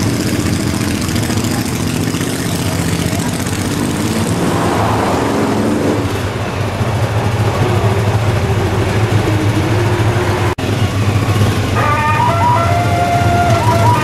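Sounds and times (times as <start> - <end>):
motorcycles idling: 0.0 - 14.0
car passing: 1.8 - 14.0.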